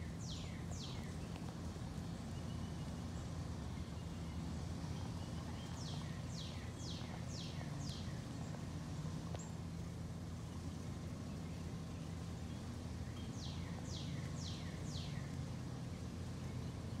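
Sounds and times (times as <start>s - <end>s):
low background rumble: 0.0s - 17.0s
songbird singing: 0.0s - 17.0s.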